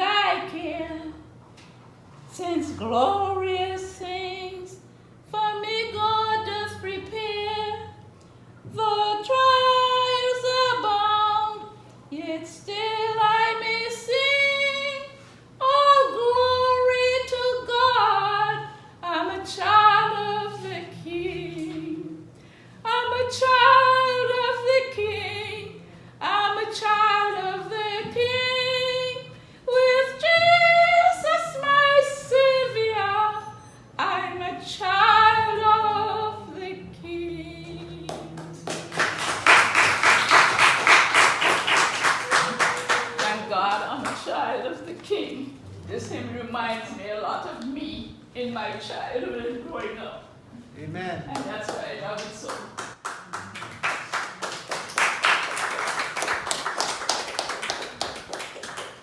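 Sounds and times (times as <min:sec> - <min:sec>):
woman singing a hymn: 0:00.0 - 0:01.4, 0:02.2 - 0:50.4.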